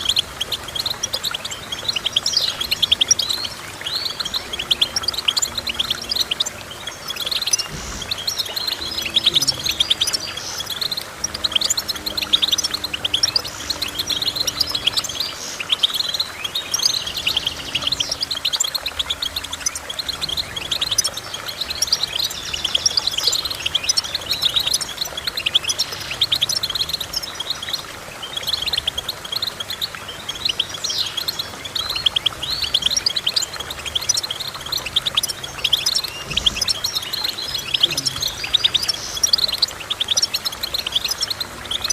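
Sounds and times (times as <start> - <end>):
finch twittering song: 0.0 - 41.9.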